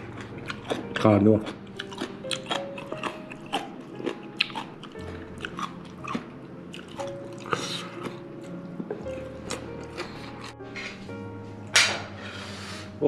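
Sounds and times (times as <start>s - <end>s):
person chewing crunchy food: 0.0s - 11.2s
soft background music: 0.0s - 13.0s.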